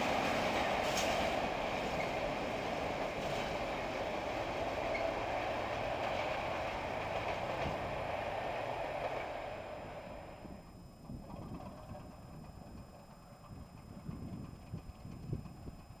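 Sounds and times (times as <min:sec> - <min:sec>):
passenger train rumbling on rails: 0:00.0 - 0:16.0.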